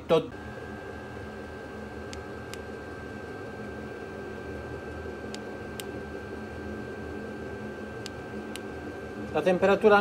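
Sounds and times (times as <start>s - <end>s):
air heater blower whirring: 0.0s - 10.0s.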